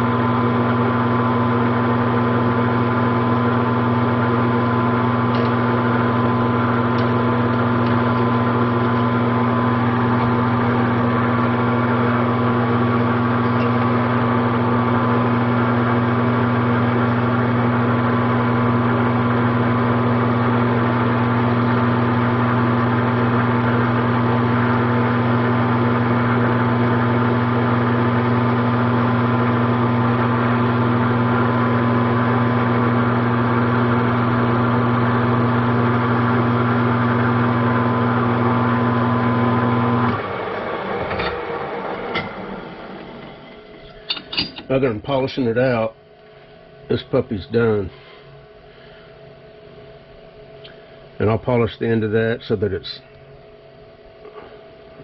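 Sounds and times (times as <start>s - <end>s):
metal lathe humming: 0.0s - 45.8s.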